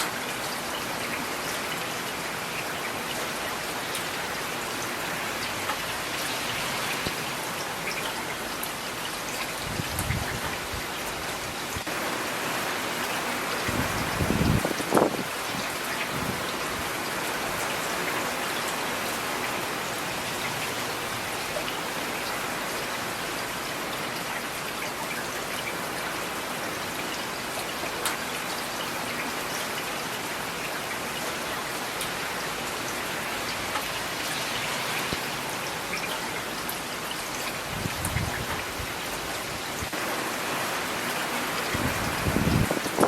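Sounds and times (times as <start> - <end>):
steady rain hiss: 0.0 - 43.0.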